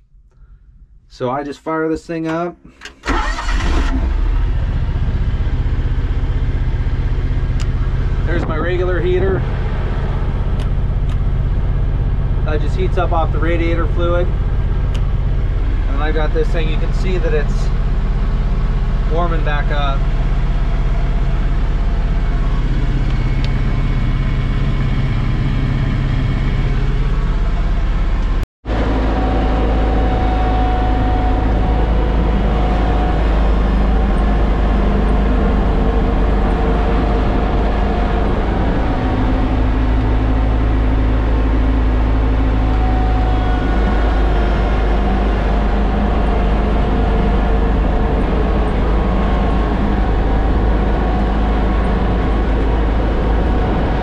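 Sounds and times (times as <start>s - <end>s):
tractor diesel engine running: 2.7s - 54.0s.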